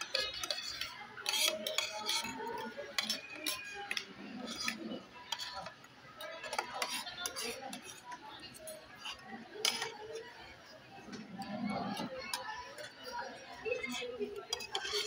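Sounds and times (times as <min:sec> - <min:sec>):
cutlery and dishes clinking: 0:00.0 - 0:10.2, 0:11.0 - 0:15.0
indistinct voices: 0:00.0 - 0:15.0.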